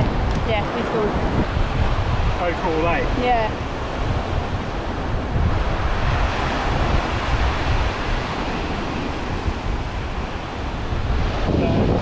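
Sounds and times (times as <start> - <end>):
surf breaking on sandy shore: 0.0 - 12.0
wind buffeting microphone: 0.0 - 12.0.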